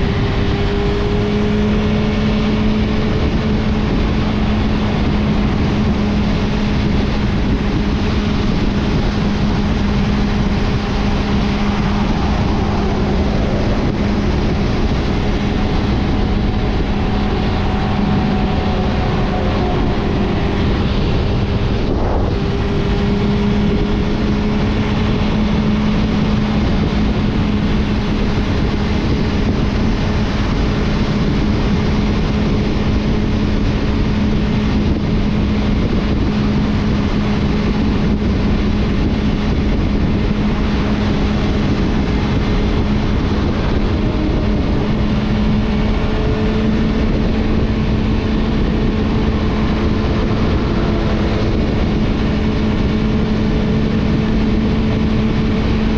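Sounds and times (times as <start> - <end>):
motorcycle engine running: 0.0 - 55.9
wind noise: 0.0 - 55.9.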